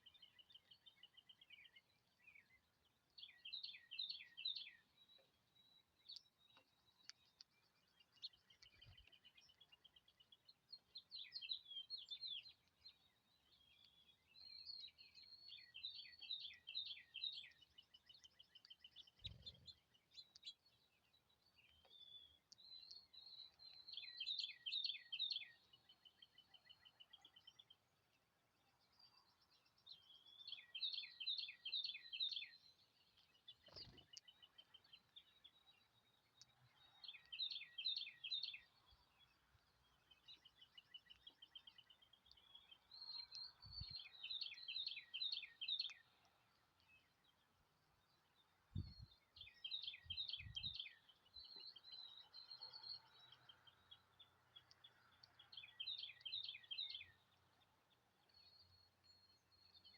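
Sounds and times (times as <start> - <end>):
songbird singing trills: 0.0 - 59.9.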